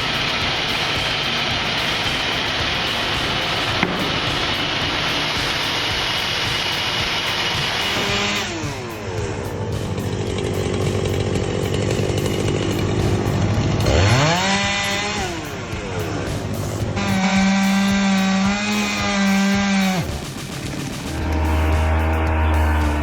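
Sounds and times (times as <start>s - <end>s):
chainsaw engine revving and idling: 0.0s - 23.0s.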